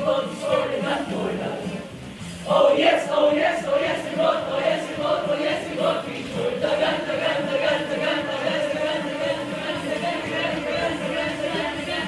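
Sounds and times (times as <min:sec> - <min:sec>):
group of voices singing: 0:00.0 - 0:12.0
music with a regular beat: 0:00.0 - 0:12.0.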